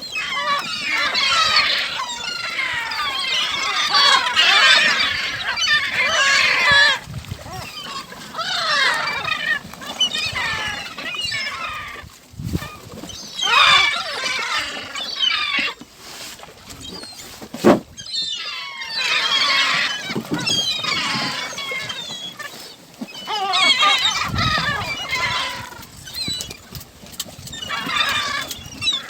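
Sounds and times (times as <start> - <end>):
gulls squawking: 0.0 - 12.0, 13.0 - 15.8, 18.0 - 26.6, 27.5 - 29.0.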